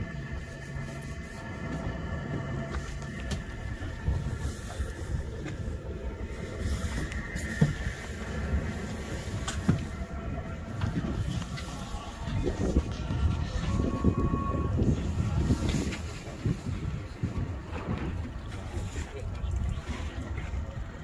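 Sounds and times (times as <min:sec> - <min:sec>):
boat engine rumbling: 0:00.0 - 0:21.0
wind buffeting microphone: 0:00.0 - 0:21.0.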